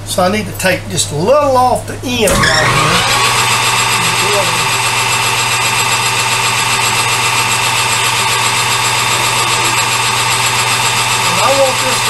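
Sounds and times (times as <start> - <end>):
high motor whine: 2.3 - 12.0
metal lathe running: 2.3 - 12.0.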